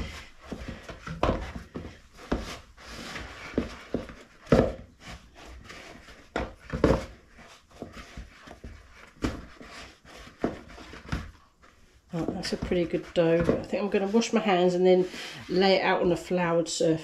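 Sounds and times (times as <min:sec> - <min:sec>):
dough rubbing and squishing: 0:00.0 - 0:16.5.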